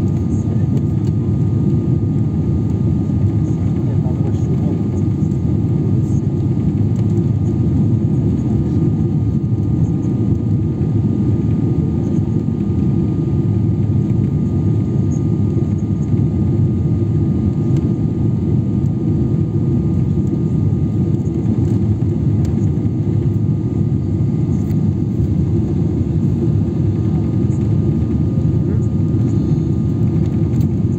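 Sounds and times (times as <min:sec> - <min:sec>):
airliner cabin rumble: 0:00.0 - 0:30.9
faint steady whine: 0:00.0 - 0:30.9.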